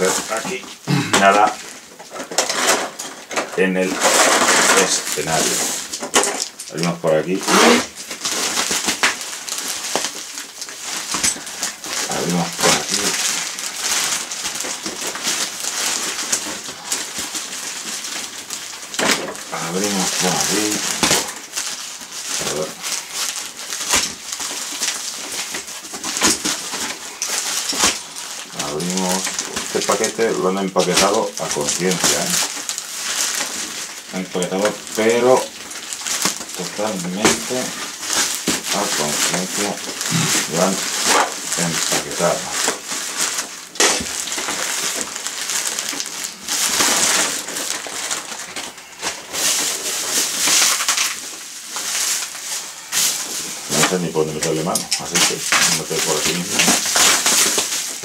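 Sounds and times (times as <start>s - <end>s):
plastic bag crinkling: 0.0s - 58.0s.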